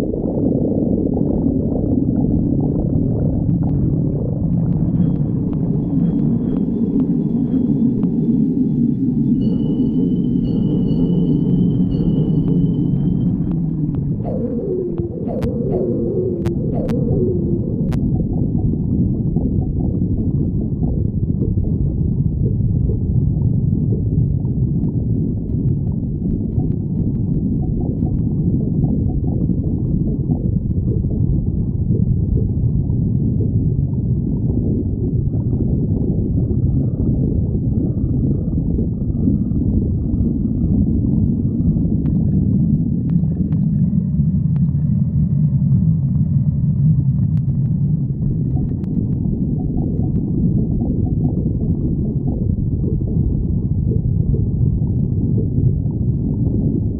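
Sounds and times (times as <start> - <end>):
stomach growling: 0.0 - 8.6, 11.9 - 56.9.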